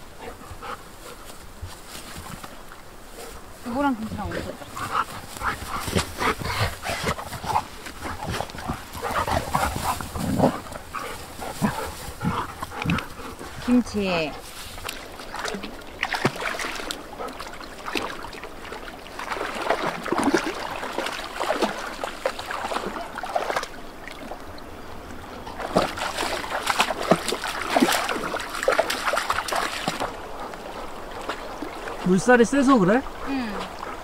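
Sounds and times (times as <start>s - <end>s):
river current rushing: 0.0s - 34.0s
dogs splashing in water: 3.7s - 24.4s, 25.4s - 34.0s.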